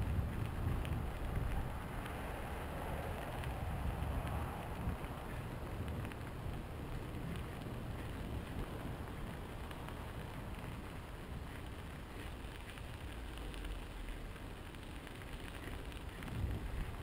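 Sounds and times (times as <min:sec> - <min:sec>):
rumble of travel over gravel: 0:00.0 - 0:17.0
wind buffeting microphone: 0:00.0 - 0:17.0.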